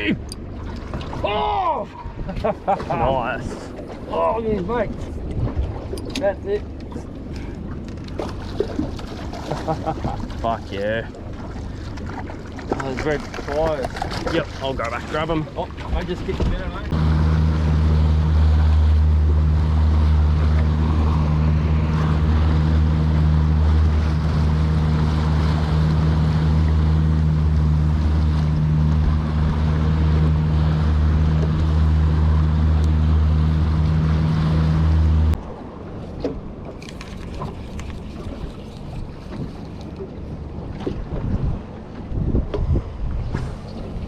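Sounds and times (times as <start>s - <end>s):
boat motor running: 0.0s - 44.0s
wind and water noise: 0.0s - 44.0s.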